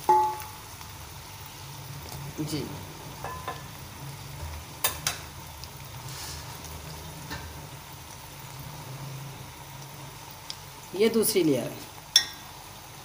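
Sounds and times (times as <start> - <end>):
oil and potatoes sizzling: 0.0 - 13.0.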